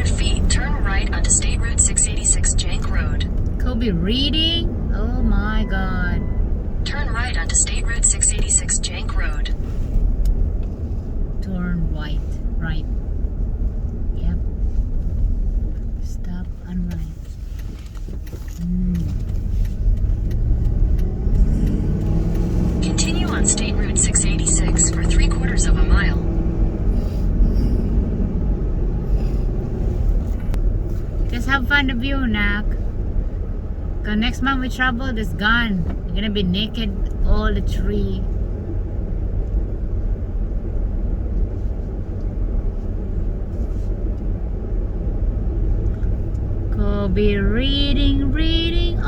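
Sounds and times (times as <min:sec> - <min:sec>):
car engine from inside cabin: 0:00.0 - 0:49.0
road rumble: 0:00.0 - 0:49.0.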